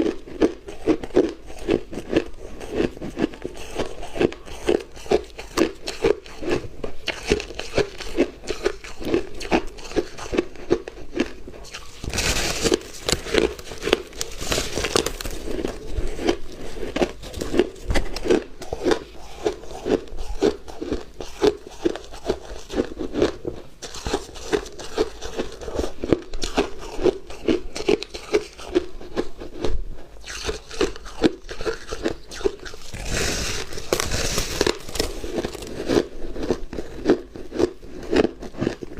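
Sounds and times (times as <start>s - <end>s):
crunching and chewing ice: 0.0s - 38.9s.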